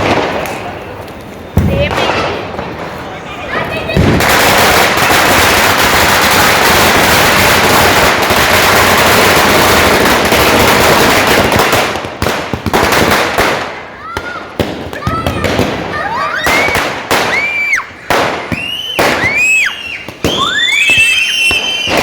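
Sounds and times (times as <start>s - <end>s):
firecrackers crackling and banging: 0.0s - 22.0s.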